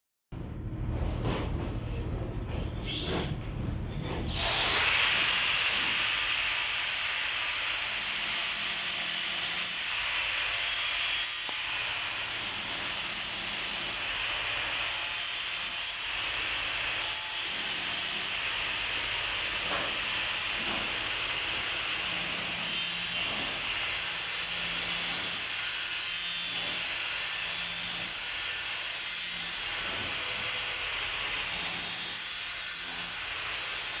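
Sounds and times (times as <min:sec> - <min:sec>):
welding arc hissing and crackling: 0:04.3 - 0:34.0.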